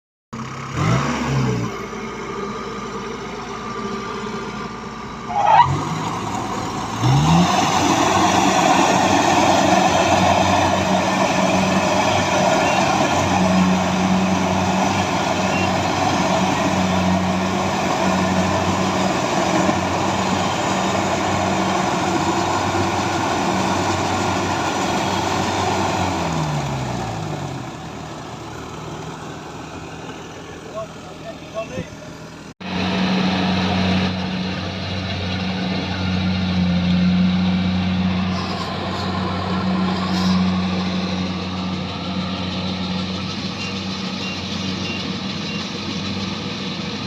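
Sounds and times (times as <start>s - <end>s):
diesel engine running: 0.3s - 47.0s.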